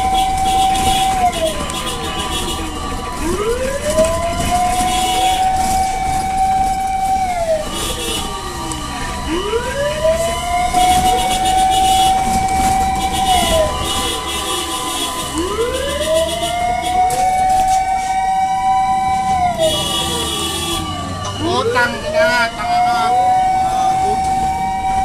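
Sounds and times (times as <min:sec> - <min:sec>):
engine and road rumble: 0:00.0 - 0:25.0
fire truck sirens wailing: 0:00.0 - 0:25.0
second siren sweeping: 0:00.0 - 0:25.0.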